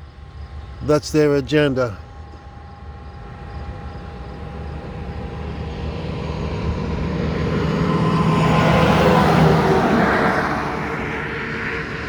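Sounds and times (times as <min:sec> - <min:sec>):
heavy vehicle engine approaching: 0:00.2 - 0:12.0.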